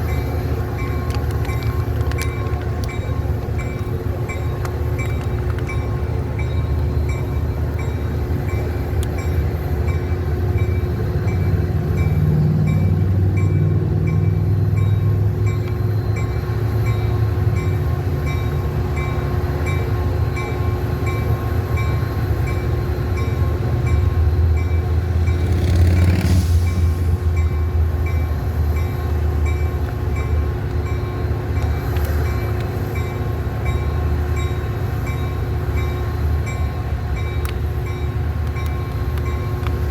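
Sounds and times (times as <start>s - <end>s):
diesel train rumbling by: 0.0s - 39.9s.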